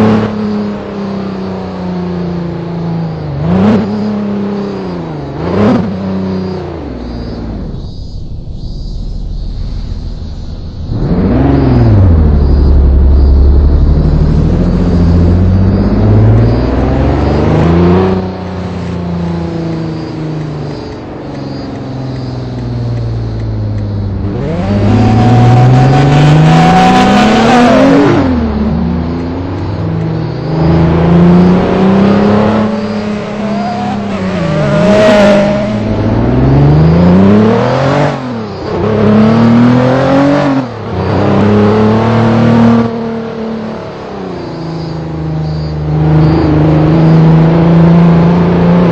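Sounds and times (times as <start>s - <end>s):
vehicle engine revving: 3.4s - 43.6s.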